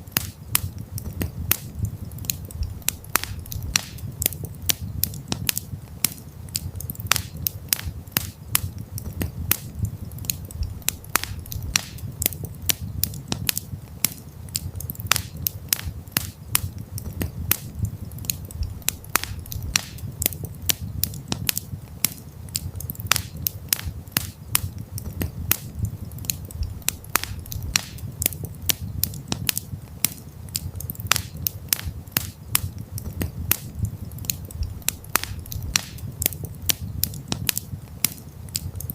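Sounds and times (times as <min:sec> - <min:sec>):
campfire crackling: 0:00.0 - 0:38.9
low rumble of burning fire: 0:00.0 - 0:38.9.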